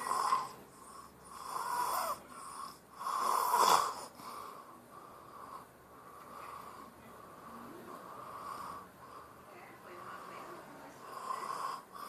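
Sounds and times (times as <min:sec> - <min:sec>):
child snoring: 0:00.0 - 0:09.3, 0:10.0 - 0:12.0
quiet breathing: 0:00.0 - 0:12.0.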